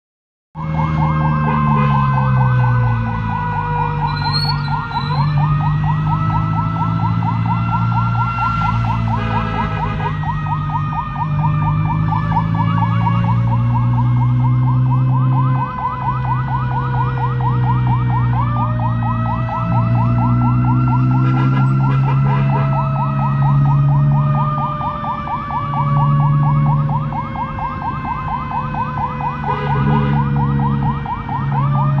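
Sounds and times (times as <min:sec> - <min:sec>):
ambulance siren: 0:00.6 - 0:32.0.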